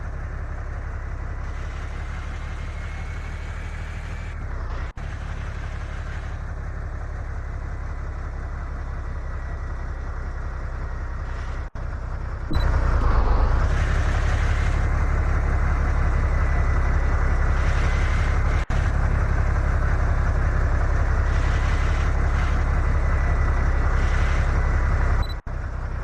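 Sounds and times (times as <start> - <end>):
heavy truck engine rumbling: 0.0 - 26.0.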